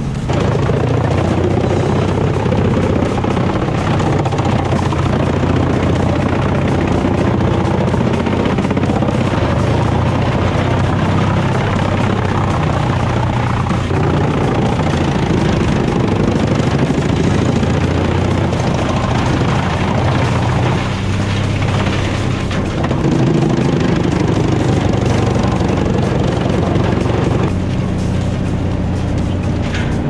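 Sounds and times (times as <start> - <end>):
heavy machinery engine drone: 0.0 - 30.0.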